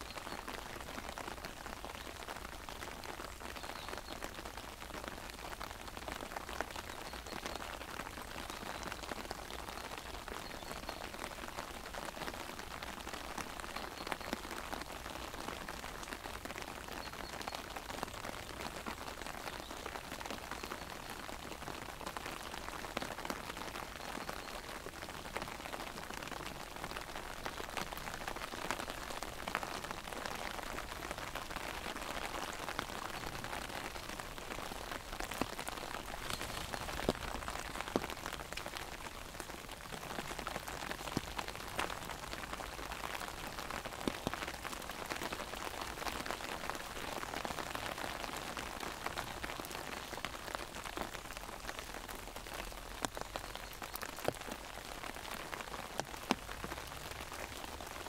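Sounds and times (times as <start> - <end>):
rain on an umbrella: 0.0 - 58.0.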